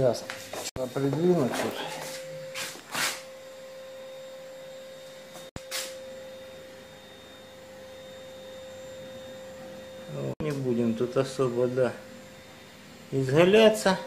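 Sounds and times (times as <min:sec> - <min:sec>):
high-pitched electrical whine: 0:00.0 - 0:14.0.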